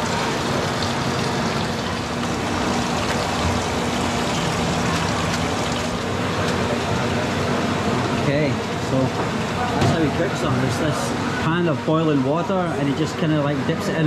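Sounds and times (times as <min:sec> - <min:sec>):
water boiling in pot: 0:00.0 - 0:14.0.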